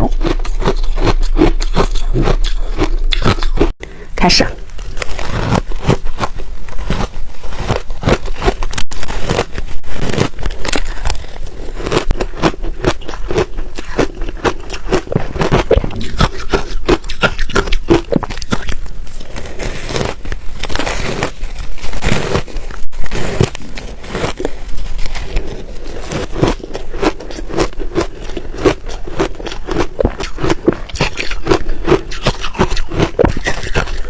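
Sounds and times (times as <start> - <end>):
ice being chewed: 0.0 - 3.8, 4.7 - 34.0.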